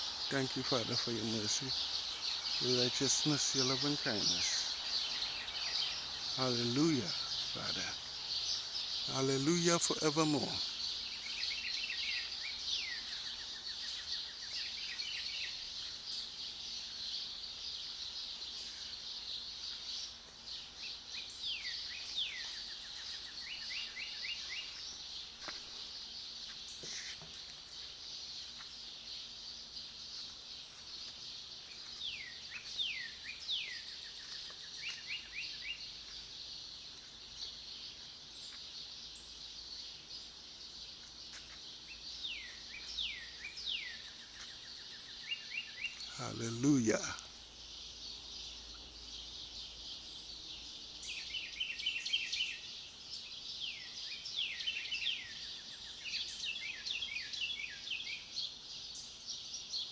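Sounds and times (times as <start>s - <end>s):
birds singing and chirping: 0.0s - 59.9s.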